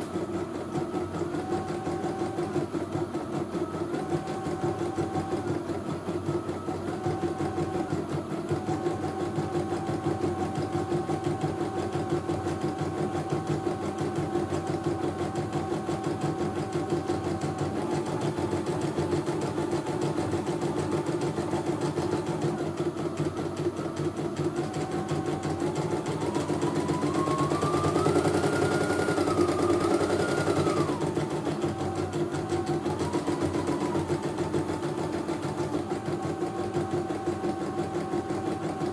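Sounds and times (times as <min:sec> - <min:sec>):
embroidery machine stitching: 0:00.0 - 0:38.9
high-pitched machine whine: 0:00.0 - 0:38.9
motor hum: 0:00.0 - 0:38.9.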